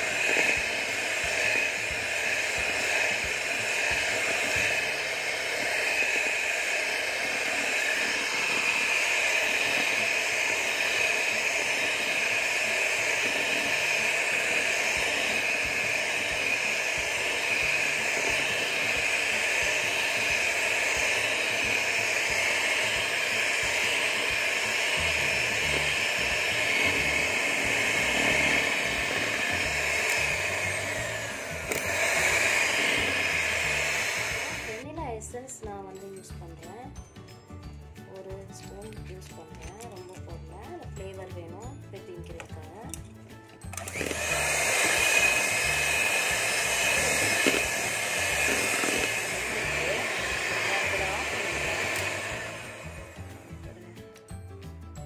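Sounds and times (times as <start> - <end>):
electric hand mixer whirring: 0.0 - 35.0, 36.3 - 54.3.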